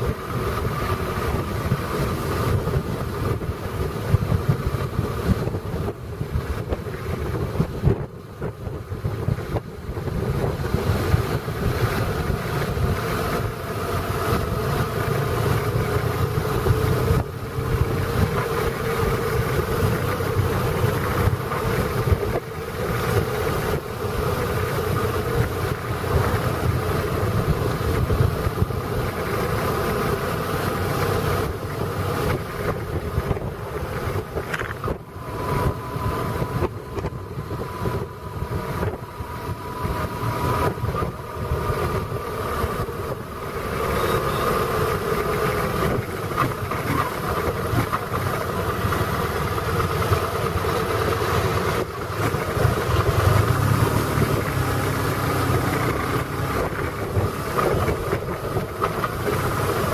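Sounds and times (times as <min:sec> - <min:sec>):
road and wind rumble on microphone: 0:00.0 - 0:59.9
vehicle engine running: 0:00.0 - 0:59.9.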